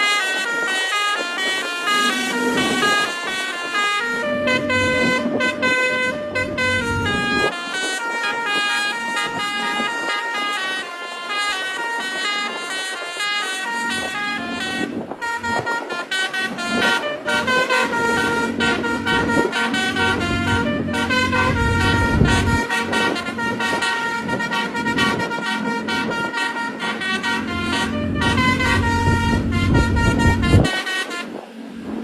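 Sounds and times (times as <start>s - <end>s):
musical vehicle horn melody: 0.0s - 31.4s.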